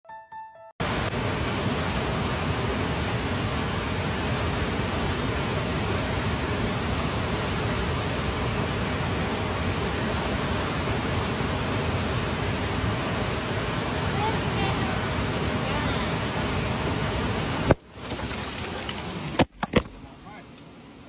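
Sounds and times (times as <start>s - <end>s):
fast-flowing river rushing: 1.2s - 19.4s.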